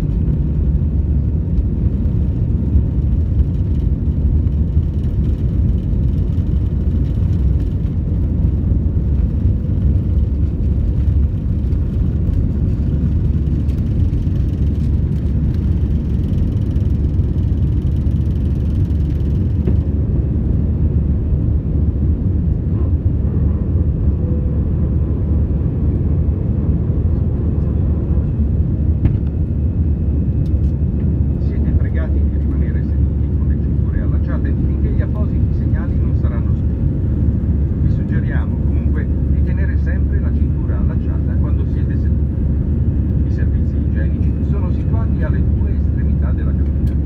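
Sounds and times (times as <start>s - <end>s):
jet engines at takeoff power: 0.0s - 47.0s.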